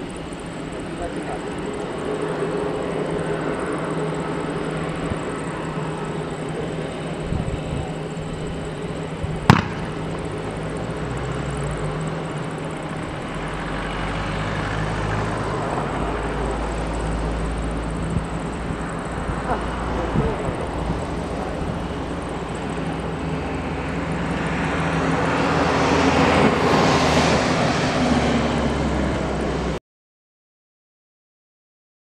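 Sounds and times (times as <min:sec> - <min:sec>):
distant jet engines rumbling: 0:00.0 - 0:29.8.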